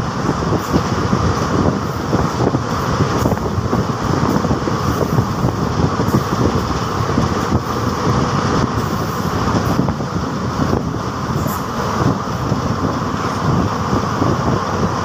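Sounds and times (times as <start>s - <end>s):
rushing air: 0.0s - 15.0s
train wheels rumbling on rails: 0.0s - 15.0s.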